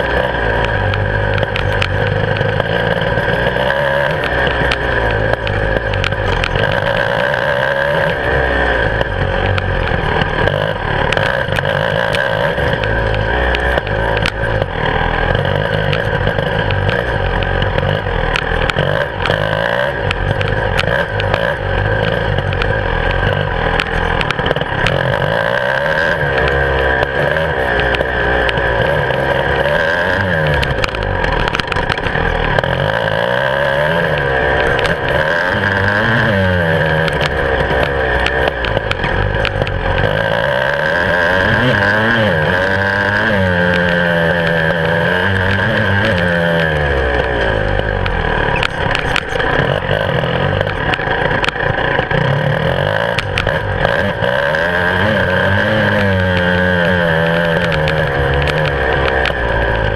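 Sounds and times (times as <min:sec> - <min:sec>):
bike knocks and rattles: 0:00.0 - 0:59.9
motorcycle engine revving: 0:00.0 - 0:59.9.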